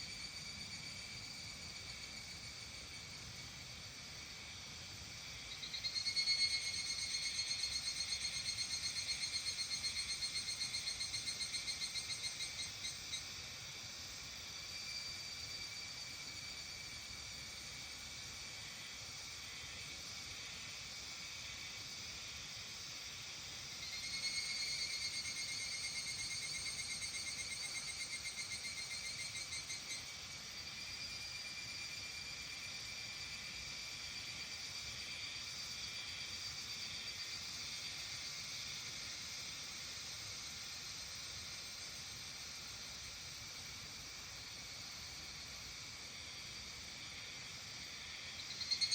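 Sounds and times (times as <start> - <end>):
insect chorus trilling: 0.0 - 48.9
pulsing insect call: 0.0 - 48.9.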